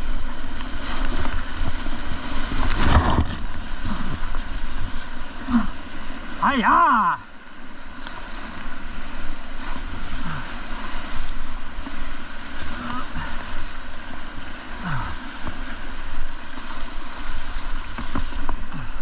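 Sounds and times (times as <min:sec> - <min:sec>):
paddle strokes splashing: 0:00.0 - 0:19.0
whitewater rushing: 0:00.0 - 0:19.0.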